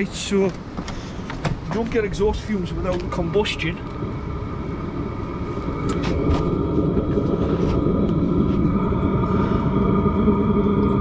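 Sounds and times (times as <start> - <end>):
fan whine: 0.0 - 11.0
heater exhaust rumbling rush: 0.0 - 11.0.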